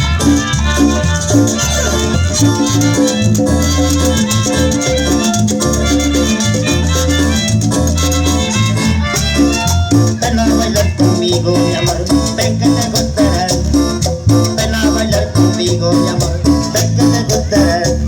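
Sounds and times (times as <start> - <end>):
repeated bass notes: 0.0 - 18.0
string band playing dance music: 0.0 - 18.0.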